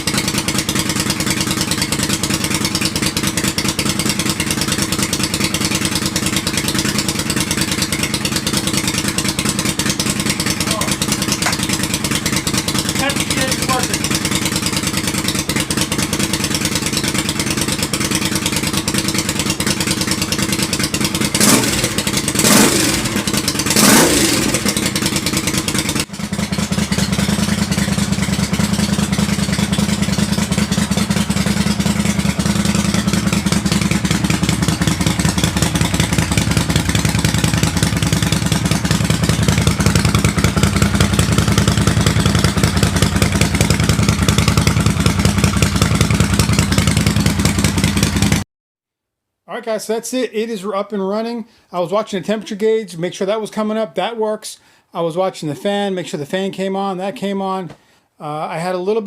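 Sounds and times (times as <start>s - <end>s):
motorcycle engine revving and idling: 0.0s - 48.4s.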